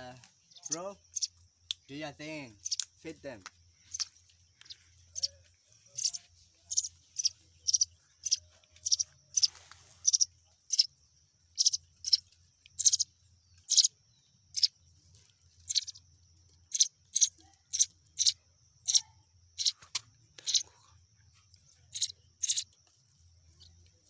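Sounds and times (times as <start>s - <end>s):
baby chicks cheeping: 0.0s - 20.8s, 21.4s - 24.0s.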